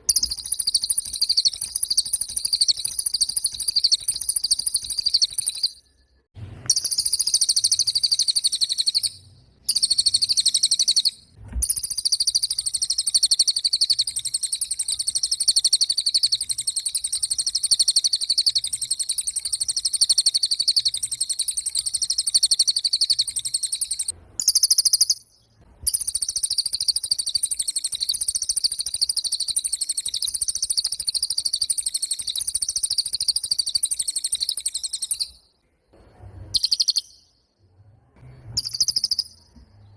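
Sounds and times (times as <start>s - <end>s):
bird chattering trill: 0.0s - 5.9s, 6.7s - 25.3s, 25.9s - 35.4s, 36.5s - 37.3s, 38.6s - 39.5s.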